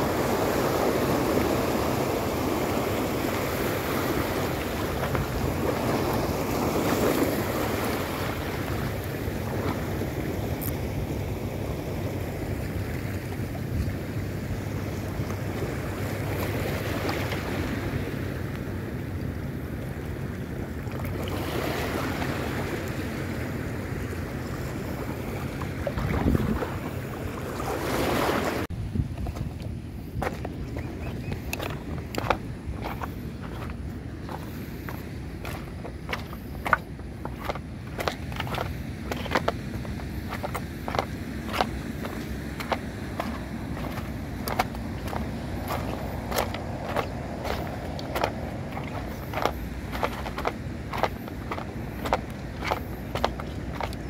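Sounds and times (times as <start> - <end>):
wind buffeting microphone: 0.0 - 19.7, 20.6 - 27.4, 28.0 - 54.0
waves washing over rocks: 0.0 - 28.7, 30.0 - 54.0.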